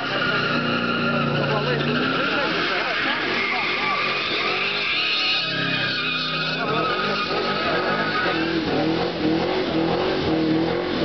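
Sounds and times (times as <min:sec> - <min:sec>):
tyres squealing: 0:00.0 - 0:09.0
car engine revving: 0:00.0 - 0:11.0.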